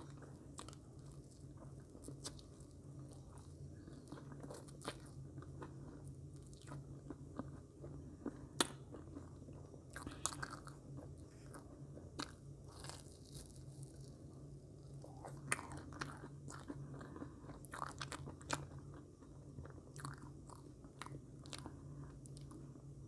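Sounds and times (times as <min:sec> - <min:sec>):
person chewing marshmallows: 0:00.0 - 0:22.8
low steady hum: 0:00.0 - 0:23.0.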